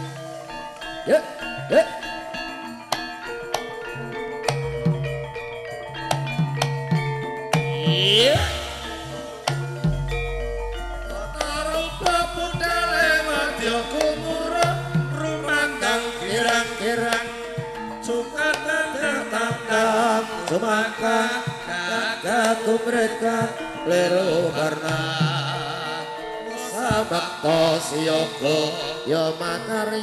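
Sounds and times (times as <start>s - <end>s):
ringing metallophones and gongs: 0.0s - 30.0s
wavering melody line: 0.0s - 30.0s
hand drums beating: 1.6s - 29.8s.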